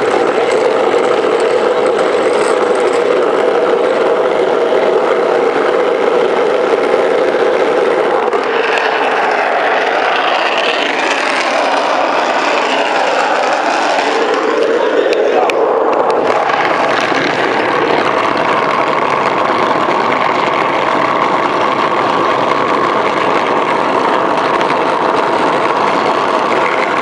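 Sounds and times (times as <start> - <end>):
cart wheels rolling over asphalt: 0.0 - 27.0.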